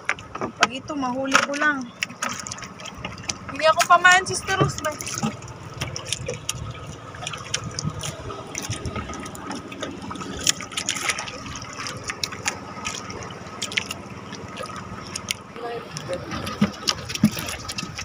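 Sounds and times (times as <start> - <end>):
small splashes and clicks: 0.0 - 18.0
water lapping and sloshing: 0.0 - 18.0.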